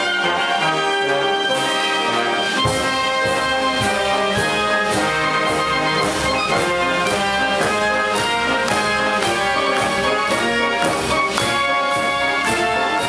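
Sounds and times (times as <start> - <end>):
instrumental brass music with beat: 0.0 - 13.0.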